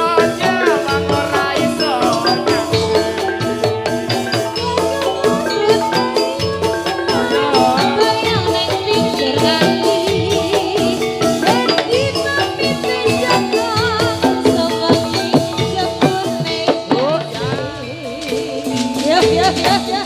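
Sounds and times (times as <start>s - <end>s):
busy drum beat: 0.0s - 20.0s
metallophones ringing struck notes: 0.0s - 20.0s
wavering melodic line: 0.0s - 20.0s.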